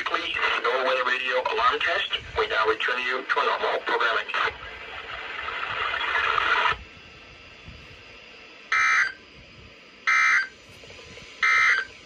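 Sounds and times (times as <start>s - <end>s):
radio hiss: 0.0s - 8.0s, 10.1s - 12.0s.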